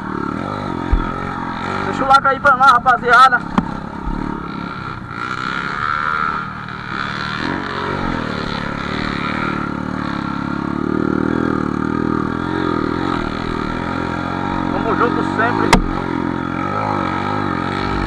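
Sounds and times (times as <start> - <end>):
off-road motorcycle engine: 0.0 - 18.0.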